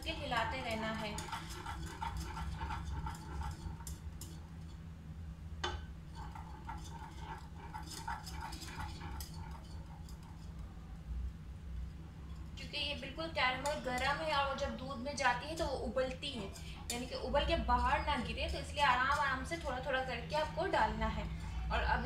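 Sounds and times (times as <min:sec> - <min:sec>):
utensil scraping metal pot: 0:00.0 - 0:04.8, 0:06.0 - 0:10.9, 0:11.9 - 0:22.0
steady low hum: 0:00.0 - 0:22.0.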